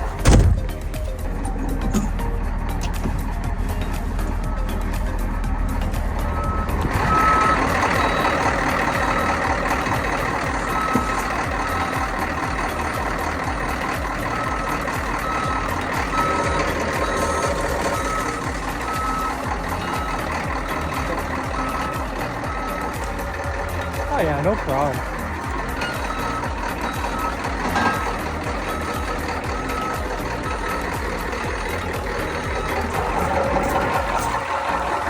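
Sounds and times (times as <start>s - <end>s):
reversing alarm beeping: 0.0s - 35.0s
truck engine running: 0.0s - 35.0s.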